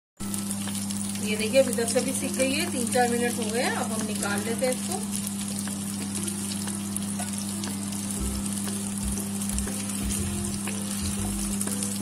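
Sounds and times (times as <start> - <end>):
fish sizzling in oil: 0.2 - 12.0.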